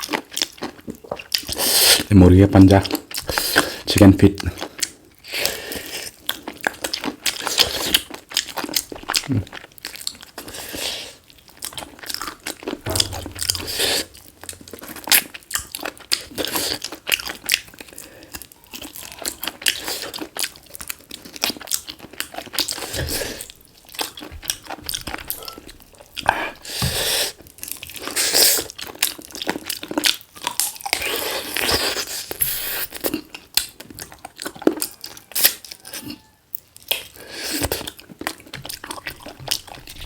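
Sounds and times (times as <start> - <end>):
chewing and crunching: 0.0 - 40.0.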